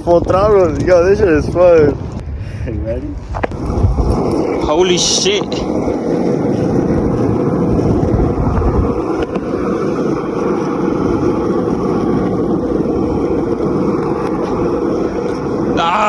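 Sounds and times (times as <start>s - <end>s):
wind buffeting microphone: 0.0s - 16.0s
road noise: 2.7s - 16.0s.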